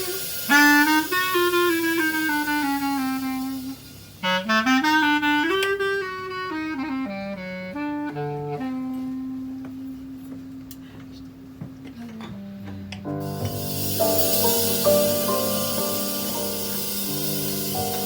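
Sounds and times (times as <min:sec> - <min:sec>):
solo jazz clarinet: 0:00.0 - 0:18.0.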